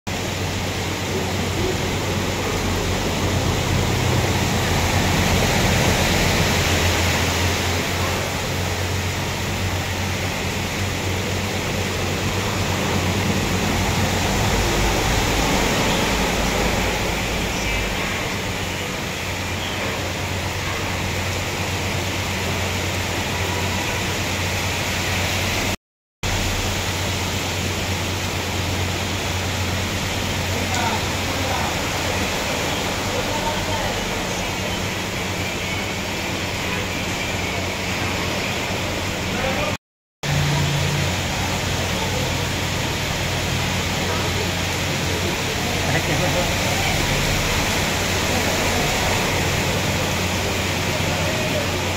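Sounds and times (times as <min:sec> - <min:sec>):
floodwater rushing: 0:00.1 - 0:51.9
heavy rain pouring: 0:00.1 - 0:51.9
vehicles wading through water: 0:00.1 - 0:51.9.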